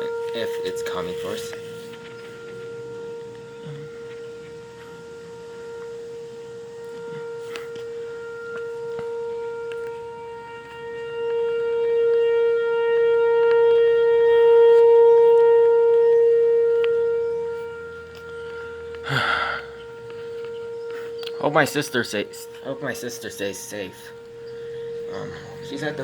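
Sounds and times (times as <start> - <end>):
warning siren steady tone: 0.0 - 26.0.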